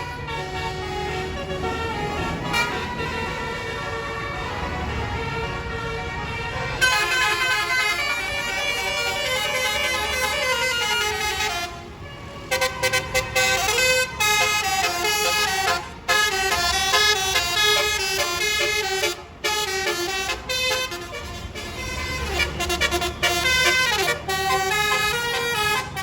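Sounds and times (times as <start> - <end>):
musical air horn melody: 0.0 - 4.6, 5.6 - 11.8, 12.5 - 26.0.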